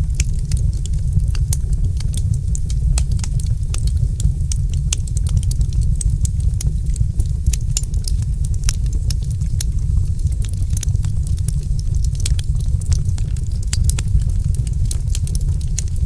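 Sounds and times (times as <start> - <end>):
low rumble of burning fire: 0.0 - 16.0
wood fire crackling and popping: 0.0 - 16.0.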